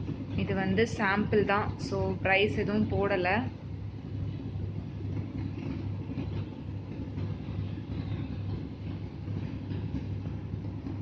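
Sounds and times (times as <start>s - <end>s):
pulsing mechanical hum: 0.0s - 11.0s.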